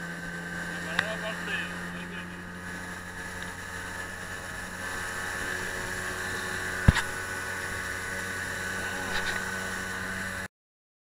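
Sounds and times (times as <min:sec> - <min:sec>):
boat motor humming: 0:00.0 - 0:10.5.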